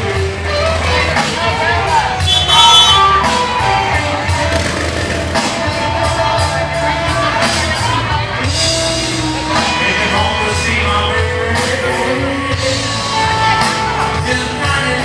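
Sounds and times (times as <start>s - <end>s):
live rock band playing: 0.0s - 15.0s
steady bass line: 0.0s - 15.0s.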